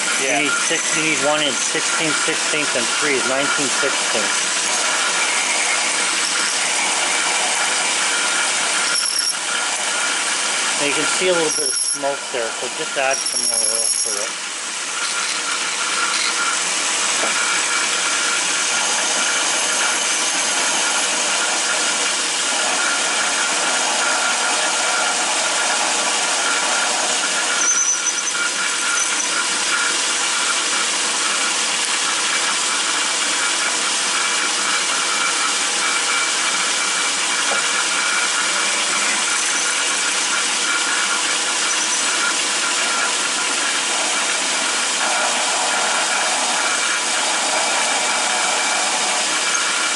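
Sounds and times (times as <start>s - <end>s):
lathe drilling into steel squealing: 0.0s - 7.2s, 8.0s - 24.5s, 27.2s - 44.8s, 49.4s - 49.9s.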